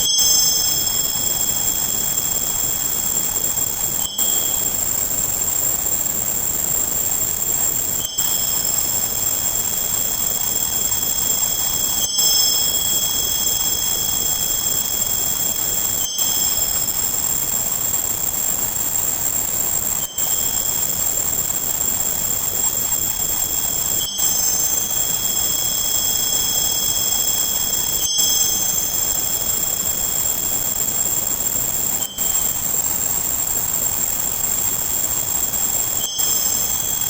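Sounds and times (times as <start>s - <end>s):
high-pitched steady tones: 0.0s - 37.0s
steady hiss: 0.0s - 37.0s.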